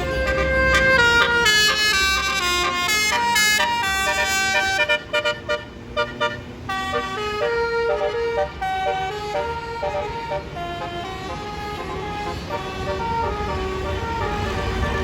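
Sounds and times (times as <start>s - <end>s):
multi-note bus air horn tune: 0.0s - 15.0s.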